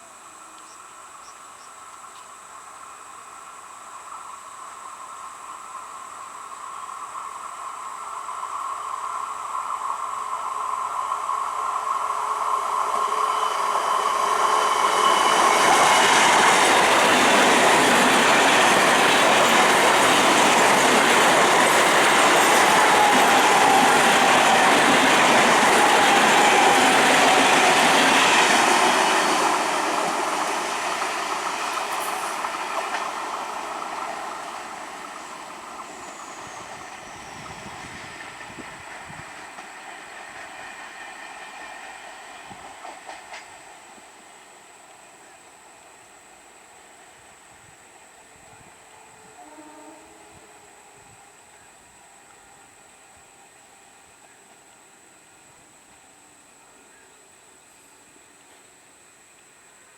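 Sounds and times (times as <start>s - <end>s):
electric train passing: 0.0s - 59.9s.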